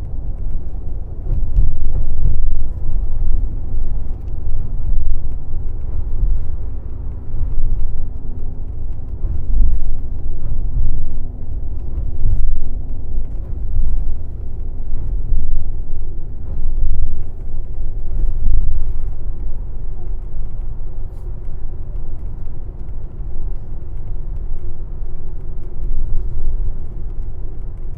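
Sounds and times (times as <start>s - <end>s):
coach engine and road rumble: 0.0s - 27.9s.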